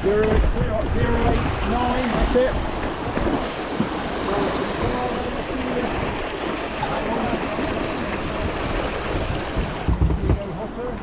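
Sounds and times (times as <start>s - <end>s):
wind noise: 0.0s - 10.6s
water rushing: 0.0s - 11.0s.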